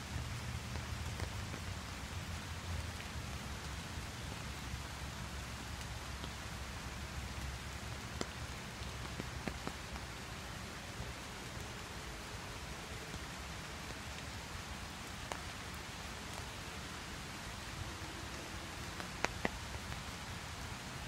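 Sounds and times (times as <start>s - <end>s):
rain on water and umbrella: 0.0s - 21.0s.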